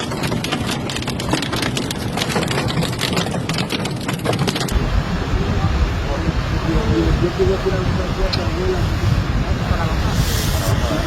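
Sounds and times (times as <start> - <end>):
heavy rain on a hard surface: 0.0 - 11.0.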